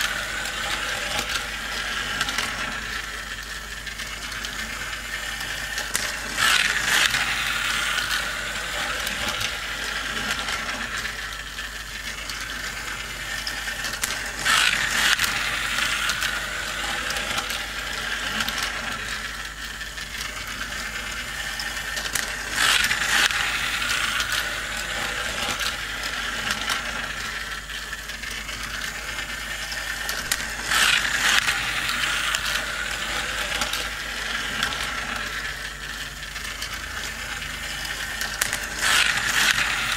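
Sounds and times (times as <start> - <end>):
toy racing track gears whirring: 0.0 - 39.9.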